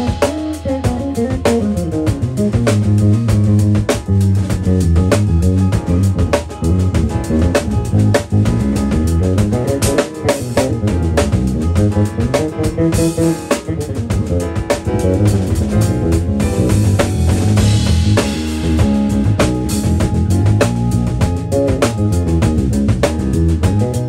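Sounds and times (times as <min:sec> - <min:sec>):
drum kit groove: 0:00.0 - 0:24.0
electric bass line: 0:00.0 - 0:24.0.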